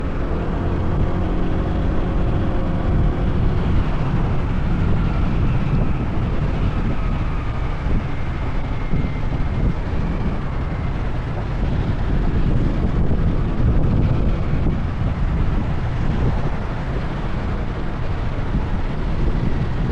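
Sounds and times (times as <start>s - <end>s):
wind noise on microphone: 0.0s - 19.9s.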